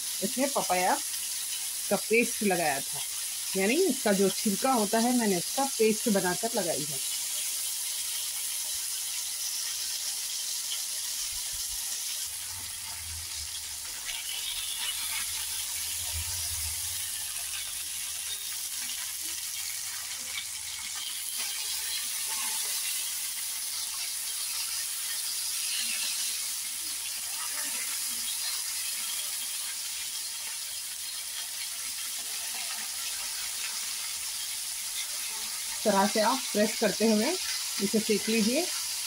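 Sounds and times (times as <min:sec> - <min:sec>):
meat sizzling in oil: 0:00.0 - 0:39.0.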